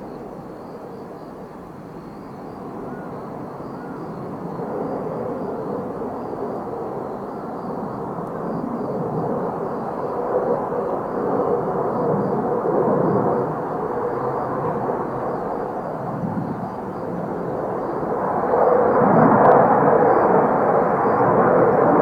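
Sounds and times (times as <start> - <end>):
jet engine roar: 4.0 - 22.0.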